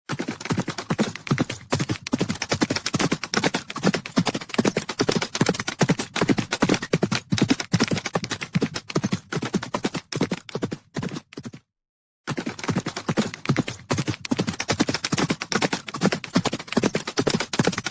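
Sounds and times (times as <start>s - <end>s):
horses galloping: 0.1s - 11.6s, 12.3s - 17.9s.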